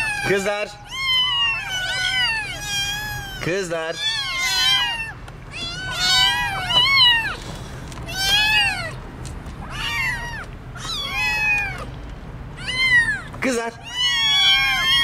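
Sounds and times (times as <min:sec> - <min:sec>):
kittens meowing: 0:00.0 - 0:15.0.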